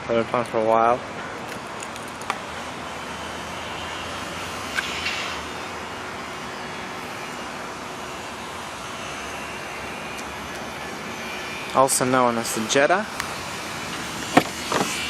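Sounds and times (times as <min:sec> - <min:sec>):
car engine idling: 0:01.1 - 0:15.0.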